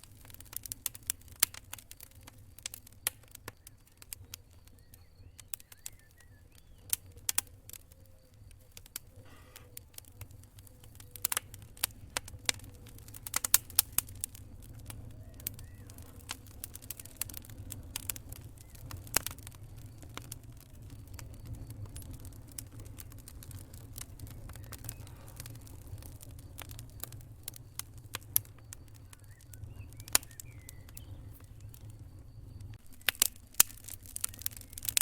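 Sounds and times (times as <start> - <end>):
campfire crackling and popping: 0.0 - 35.0
low rumble of fire: 0.0 - 35.0.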